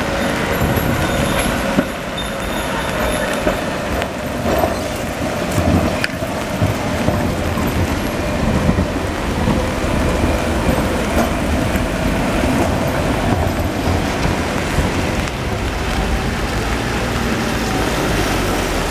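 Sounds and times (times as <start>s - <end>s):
bus creeping: 0.0s - 18.9s
traffic: 0.0s - 18.9s
tram rolling on rails: 0.0s - 18.9s
tyres hissing on wet pavement: 0.0s - 18.9s.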